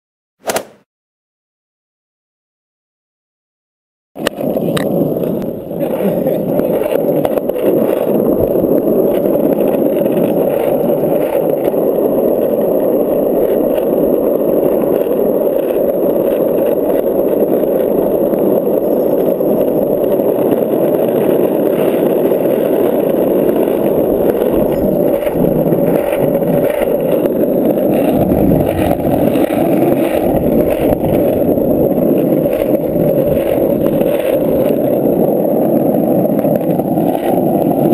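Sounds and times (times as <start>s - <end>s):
skateboard wheels rolling on asphalt: 4.2s - 37.9s.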